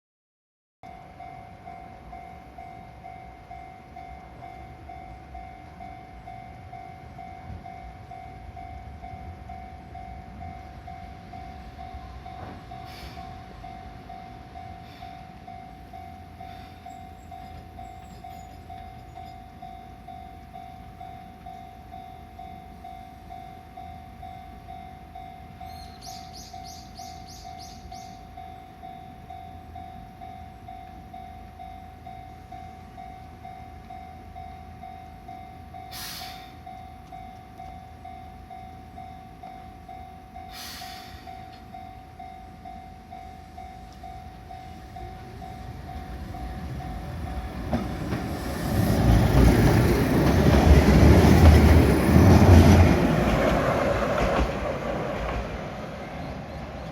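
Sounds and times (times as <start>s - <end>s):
level crossing alarm ringing: 0.8s - 49.7s
train rumbling: 0.9s - 56.9s.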